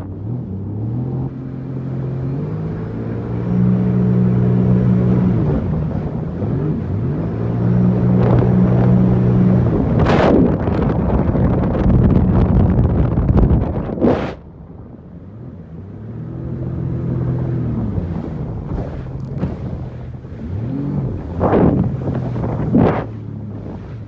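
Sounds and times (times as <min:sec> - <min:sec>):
personal watercraft engine revving: 0:00.0 - 0:24.0.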